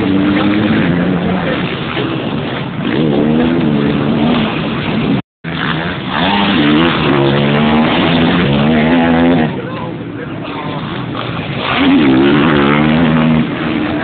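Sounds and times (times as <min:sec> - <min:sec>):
motocross bike engines racing: 0:00.0 - 0:14.0.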